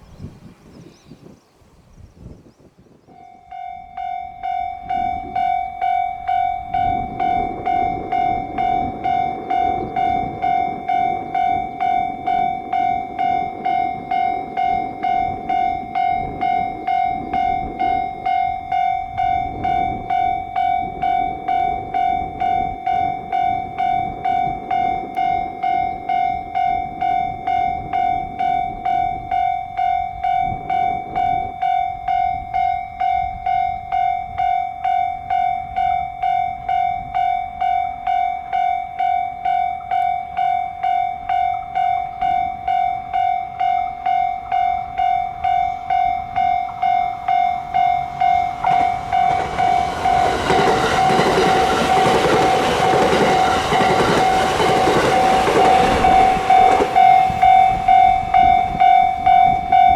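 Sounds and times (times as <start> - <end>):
oncoming train: 0.0 - 59.9
level crossing warning bell: 3.1 - 59.9.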